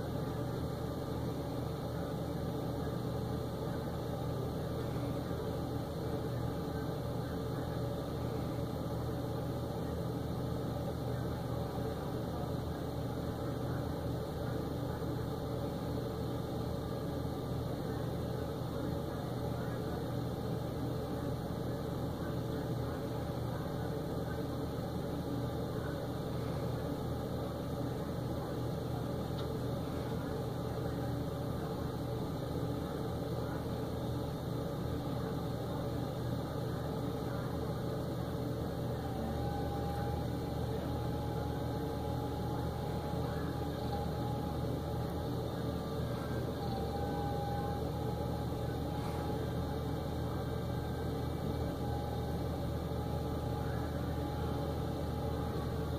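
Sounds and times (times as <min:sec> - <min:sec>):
thin steady whine: 0:00.0 - 0:55.9.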